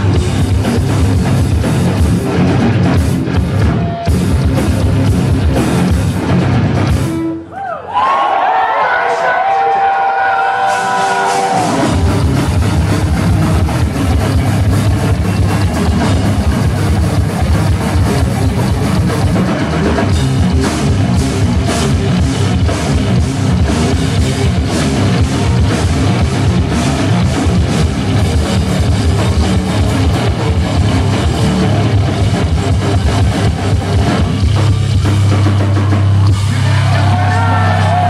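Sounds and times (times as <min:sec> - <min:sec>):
hard rock band playing live: 0:00.0 - 0:07.5, 0:10.5 - 0:38.0.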